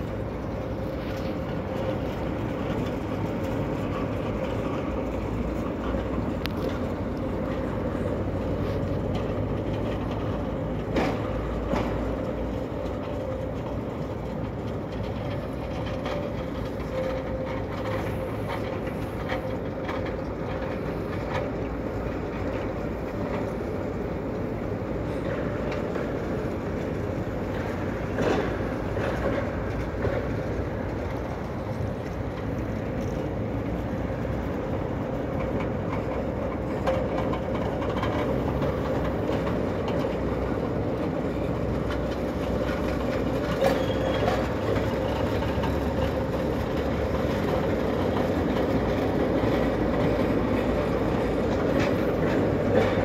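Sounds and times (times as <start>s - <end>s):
constant hum: 0.0s - 53.0s
train rumbling past: 0.0s - 53.0s
wheels clicking over rails: 0.0s - 53.0s.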